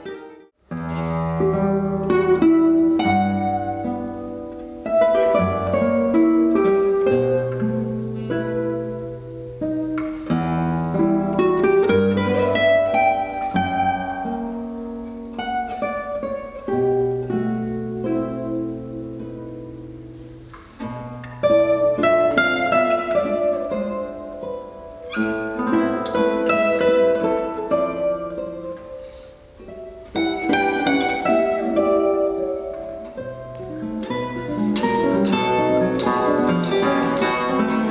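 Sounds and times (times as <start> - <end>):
classical guitars playing: 0.0 - 37.9.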